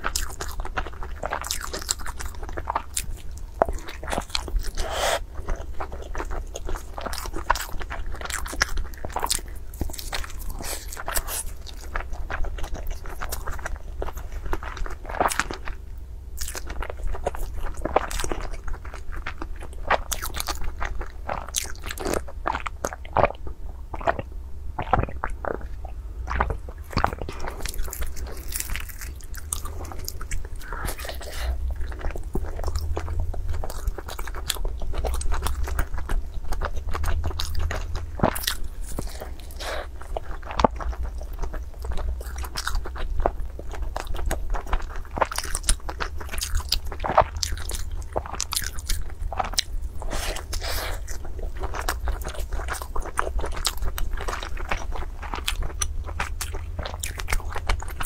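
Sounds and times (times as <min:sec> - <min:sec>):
crunchy chewing: 0:00.0 - 0:15.8, 0:16.4 - 0:58.0.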